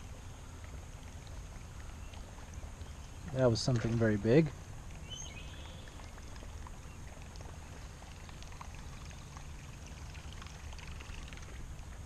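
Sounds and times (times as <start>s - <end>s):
small water splashes: 0.0s - 12.0s
water trickling and dripping: 0.0s - 12.0s.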